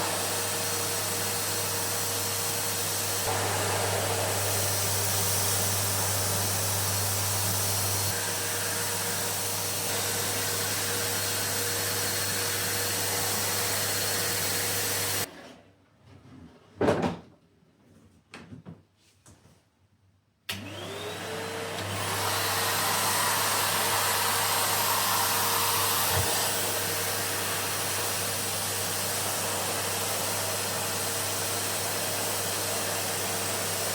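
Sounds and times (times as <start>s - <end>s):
vacuum cleaner motor whine: 0.0s - 15.3s, 20.5s - 33.9s.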